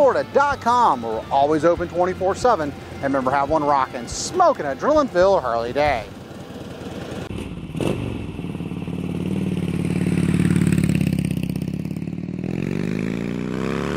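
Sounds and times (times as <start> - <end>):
motorcycle engine running: 0.2 - 13.9.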